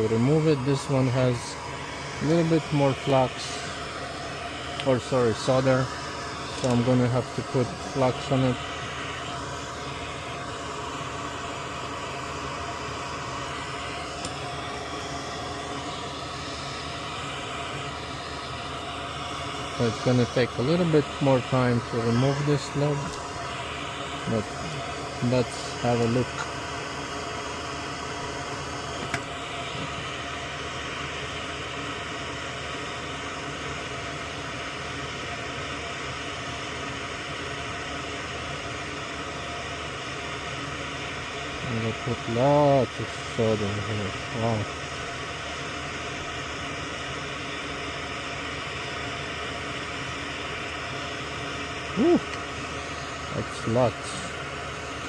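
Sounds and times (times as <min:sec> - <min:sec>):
fan humming and hissing: 0:00.0 - 0:55.0.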